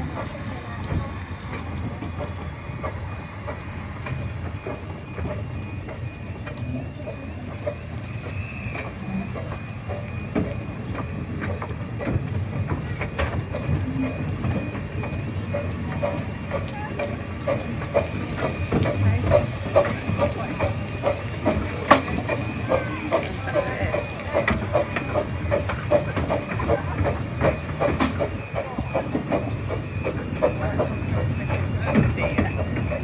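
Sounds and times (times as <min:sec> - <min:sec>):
miniature train rumbling: 0:00.0 - 0:33.0
wheels clicking on track: 0:00.0 - 0:33.0.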